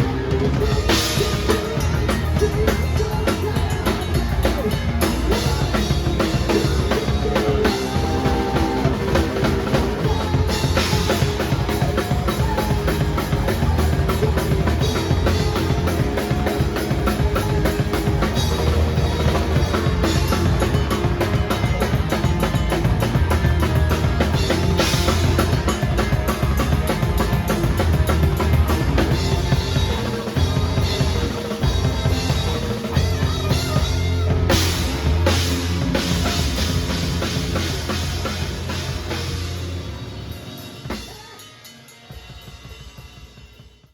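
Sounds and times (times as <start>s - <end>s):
drum kit playing: 0.0s - 43.9s
full band music: 0.0s - 43.9s.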